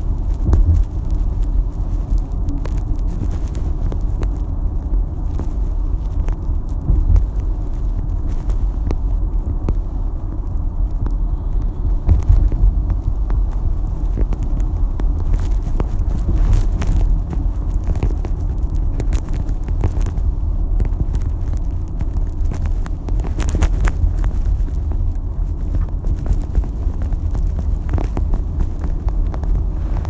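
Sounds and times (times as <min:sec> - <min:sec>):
road and engine rumble: 0:00.0 - 0:30.0
small clicks and rattles: 0:00.0 - 0:30.0.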